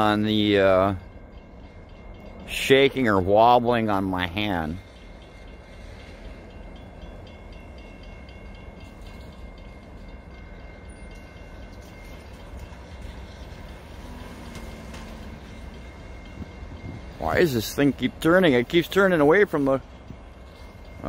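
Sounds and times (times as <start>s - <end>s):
distant diesel locomotives rumbling: 0.0s - 21.0s.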